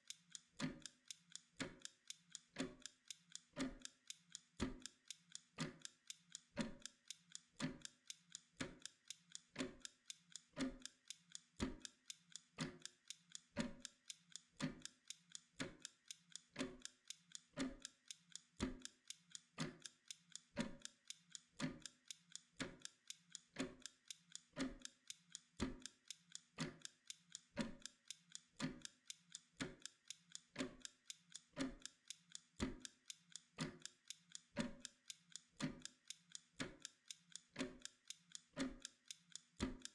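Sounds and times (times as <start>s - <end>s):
mechanical timer ticking: 0.0s - 39.9s.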